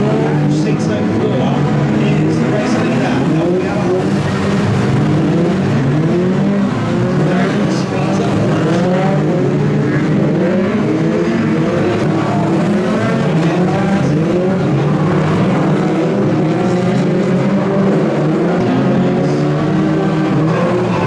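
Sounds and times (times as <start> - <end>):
racing car engines revving: 0.0 - 21.0.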